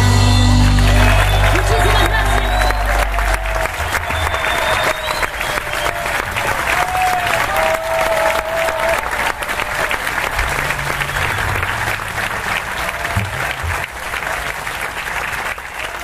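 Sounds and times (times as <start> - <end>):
audience applauding: 0.5 - 16.0.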